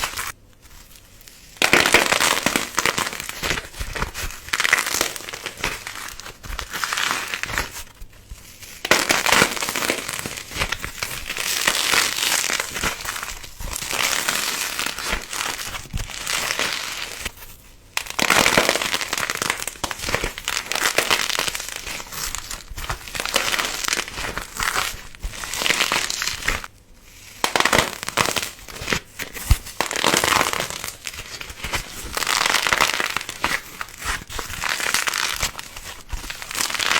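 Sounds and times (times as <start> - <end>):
crinkly material being crushed: 0.0 - 36.9.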